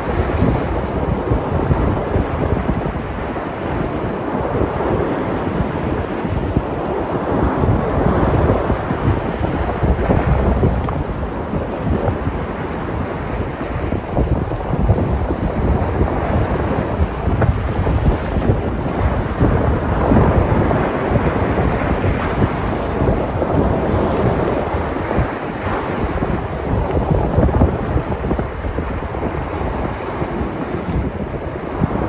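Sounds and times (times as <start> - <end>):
sea surf breaking on shore: 0.0 - 32.0
wind buffeting microphone: 0.0 - 32.0.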